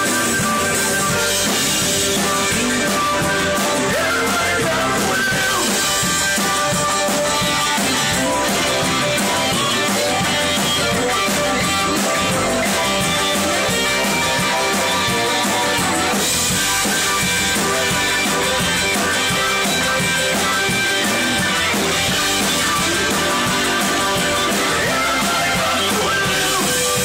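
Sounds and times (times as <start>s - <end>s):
drum kit: 0.0s - 27.0s
electric guitar: 0.0s - 27.0s.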